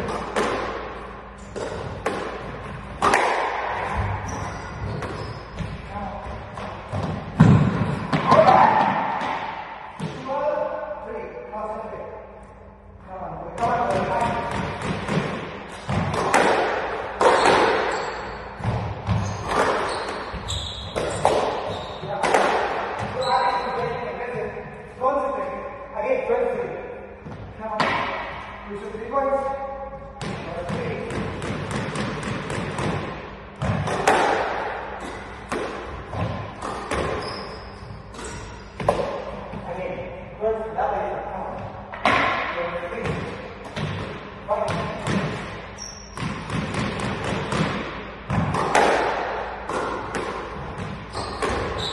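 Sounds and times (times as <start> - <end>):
squash ball thuds echoing: 0.0 - 10.9, 13.4 - 24.8, 27.0 - 28.7, 29.8 - 40.2, 41.4 - 51.9.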